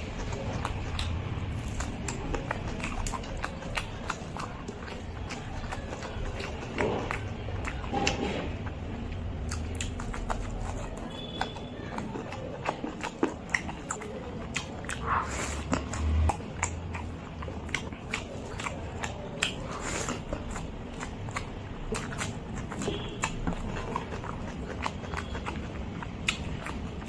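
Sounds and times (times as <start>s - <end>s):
wet chewing with mouth clicks: 0.0s - 27.0s.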